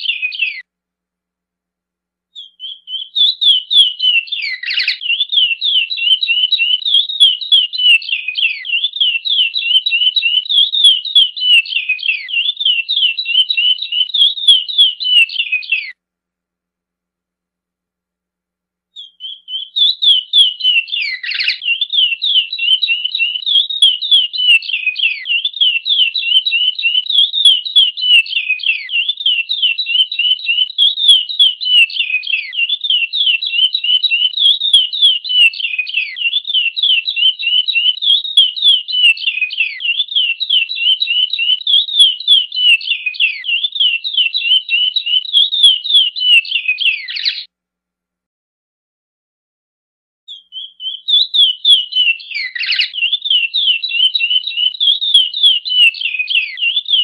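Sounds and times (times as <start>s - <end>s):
finch singing whistled notes: 0.0s - 0.6s, 2.4s - 16.0s, 19.0s - 47.5s, 50.3s - 57.0s.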